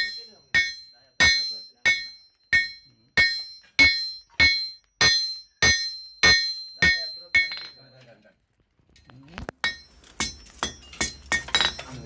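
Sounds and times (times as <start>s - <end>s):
hammer ringing on anvil: 0.0s - 8.0s, 9.6s - 12.0s.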